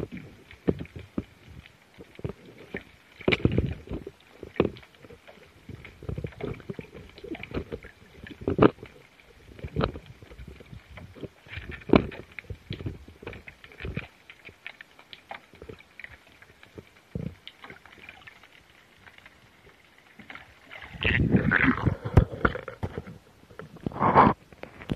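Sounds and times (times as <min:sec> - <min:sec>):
underwater knocks and thumps: 0:00.0 - 0:14.6, 0:16.7 - 0:18.1, 0:20.2 - 0:24.9.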